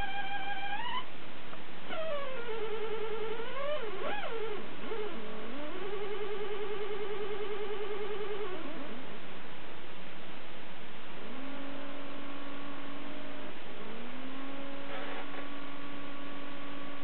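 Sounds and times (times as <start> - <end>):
warbling electronic tone: 0.0 - 1.1, 1.9 - 9.2, 11.2 - 17.0
constant hiss: 0.0 - 17.0.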